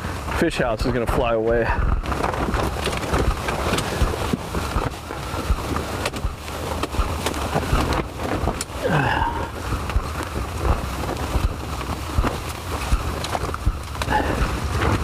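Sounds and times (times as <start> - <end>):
fabric walls snapping in wind: 0.0 - 15.0
blizzard wind gusting: 1.6 - 15.0.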